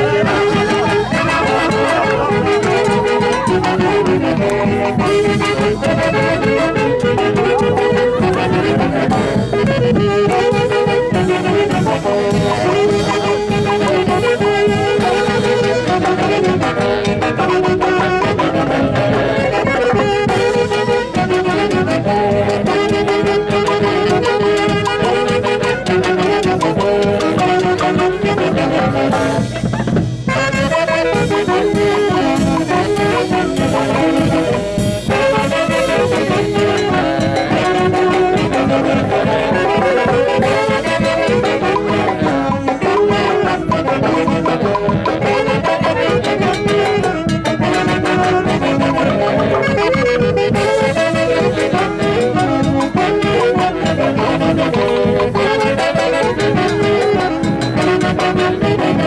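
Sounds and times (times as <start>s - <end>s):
brass band dance music: 0.0s - 59.0s.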